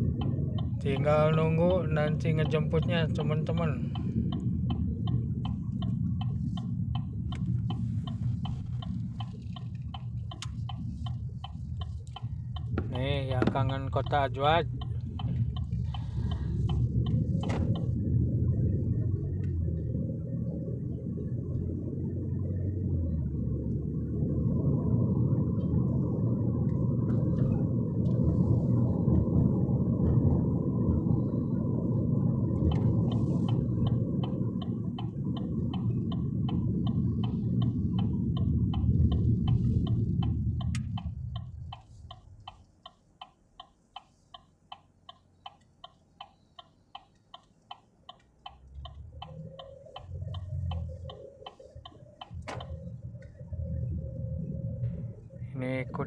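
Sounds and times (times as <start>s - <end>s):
car road and engine rumble: 0.0s - 56.0s
turn signal clicking: 0.0s - 56.0s.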